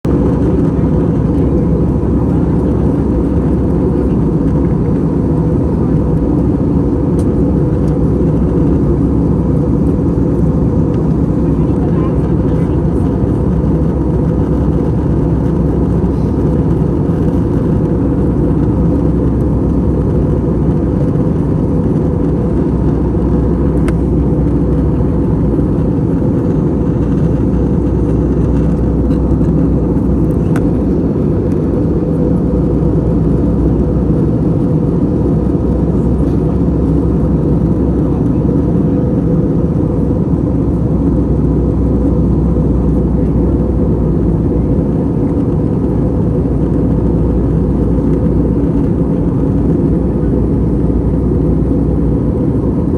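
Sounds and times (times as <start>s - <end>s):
airplane cabin engine drone: 0.0s - 52.9s.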